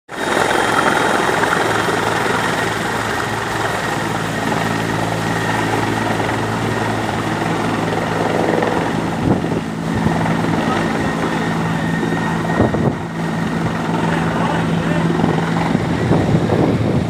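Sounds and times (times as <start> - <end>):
helicopter rotor and turbine: 0.1 - 17.0.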